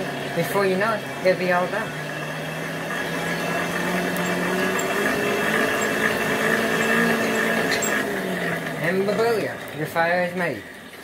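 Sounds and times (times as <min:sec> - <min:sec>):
hand-cranked forge blower whirring: 0:00.0 - 0:11.0.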